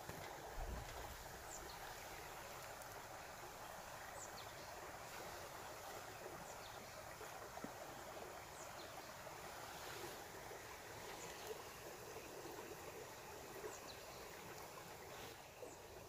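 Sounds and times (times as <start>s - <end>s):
faint outdoor ambient hiss: 0.0s - 16.0s.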